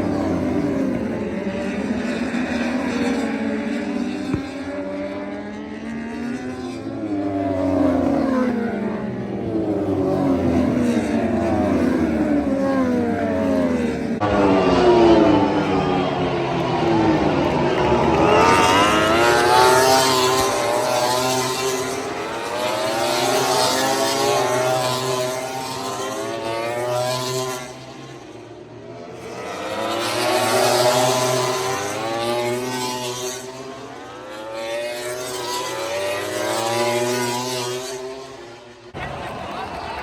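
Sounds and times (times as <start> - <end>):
racing motorcycles passing: 0.0 - 40.0.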